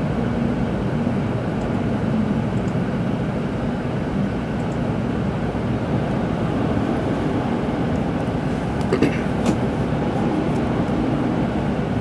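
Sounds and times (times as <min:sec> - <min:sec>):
train rumbling from inside cabin: 0:00.0 - 0:12.0.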